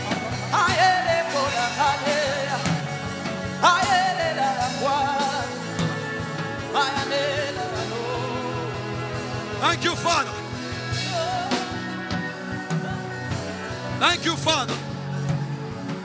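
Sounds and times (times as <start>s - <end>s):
slow worship music: 0.0s - 16.0s.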